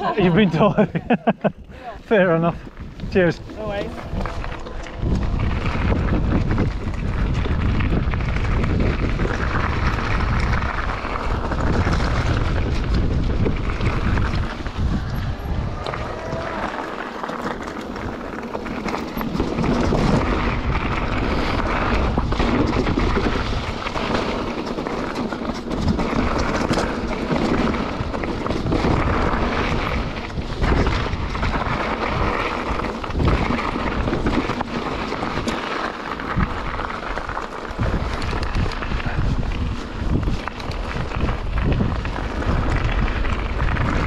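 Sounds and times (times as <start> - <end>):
bike rattling: 0.0 - 44.0
tyres rolling over gravel: 0.0 - 44.0
wind buffeting microphone: 0.0 - 44.0.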